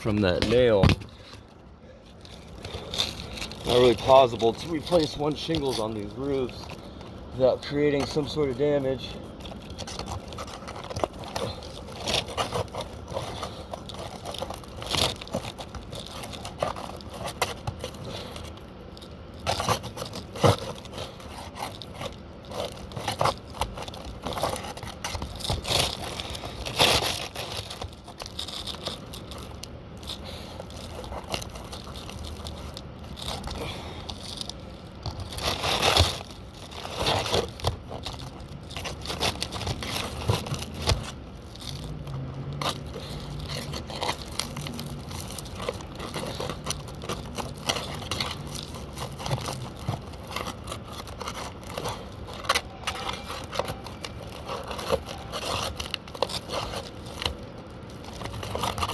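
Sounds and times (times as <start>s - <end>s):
shingles scraping and tearing: 0.0s - 58.9s.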